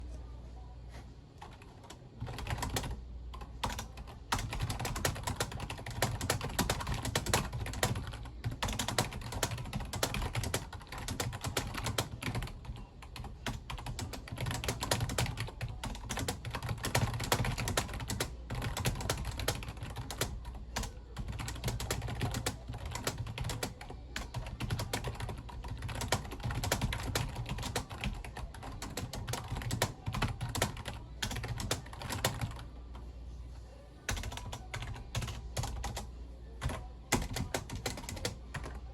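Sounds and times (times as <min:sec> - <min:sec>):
steady low hum: 0:00.0 - 0:38.9
fast keyboard typing: 0:01.4 - 0:32.7, 0:34.1 - 0:38.9.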